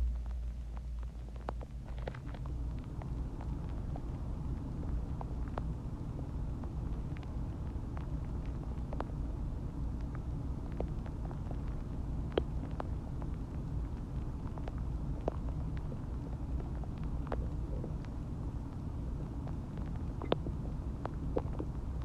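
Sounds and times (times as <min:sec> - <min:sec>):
low stomach rumble: 0:00.0 - 0:22.0
gurgling pops and clicks: 0:00.1 - 0:22.0.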